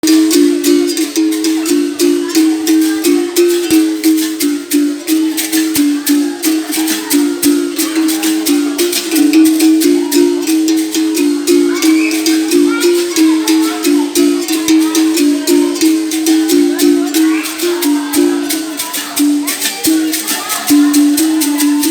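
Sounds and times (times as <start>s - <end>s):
low-pitched berimbau strokes: 0.0s - 21.9s
shaker rattle: 0.0s - 21.9s.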